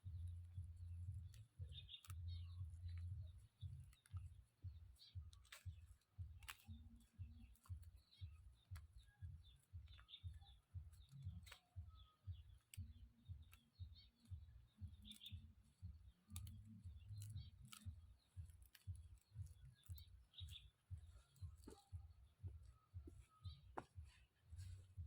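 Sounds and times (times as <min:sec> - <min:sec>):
faint rhythmic low thuds: 0:00.0 - 0:25.0
light clicks: 0:00.2 - 0:11.8, 0:12.6 - 0:22.0.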